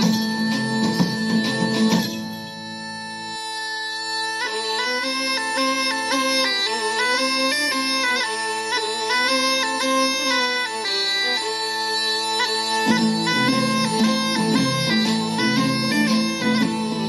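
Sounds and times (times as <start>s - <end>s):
bagpipe melody over drone: 0.0s - 17.0s.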